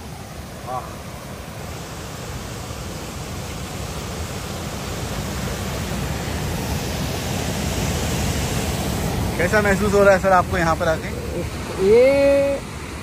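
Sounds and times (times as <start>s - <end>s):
white water rushing over rocks: 0.0s - 13.0s.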